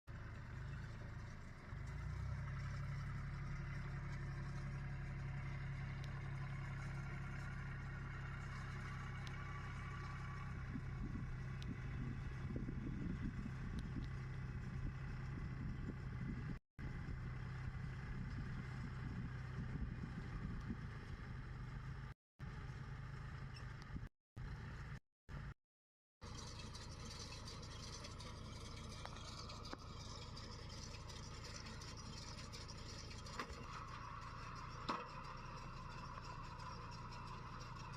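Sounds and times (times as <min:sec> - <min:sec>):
tractor engine running: 0:00.1 - 0:25.6, 0:26.2 - 0:37.9.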